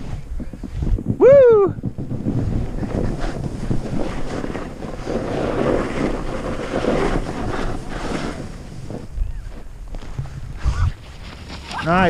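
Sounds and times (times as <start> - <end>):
wind buffeting microphone: 0.0 - 12.0
skis scraping through snow: 2.0 - 12.0.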